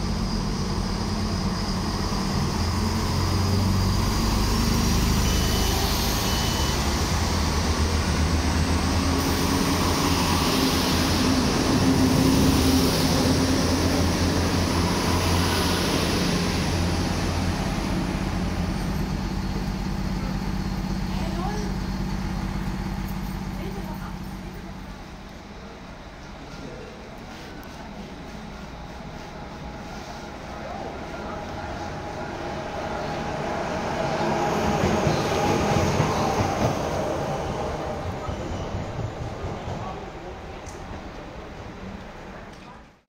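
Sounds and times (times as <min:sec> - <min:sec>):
diesel train engine drone: 0:00.0 - 0:42.6.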